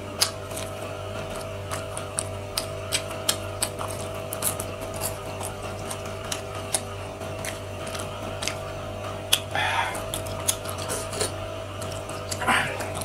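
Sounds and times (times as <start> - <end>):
chewing mouth clicks and smacks: 0.1 - 13.0.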